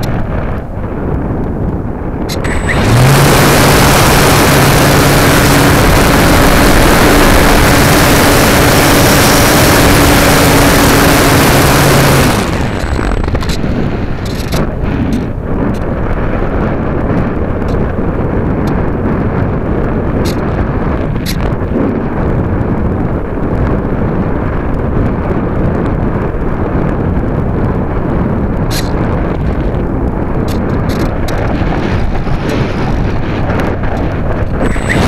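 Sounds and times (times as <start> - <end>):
wind rushing over camera: 0.0 - 35.0
electric motor and propeller: 2.1 - 35.0.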